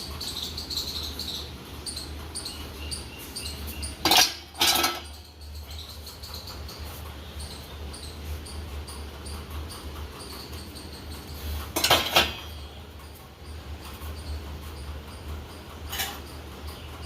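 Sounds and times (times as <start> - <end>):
dishwasher humming: 0.0 - 17.0.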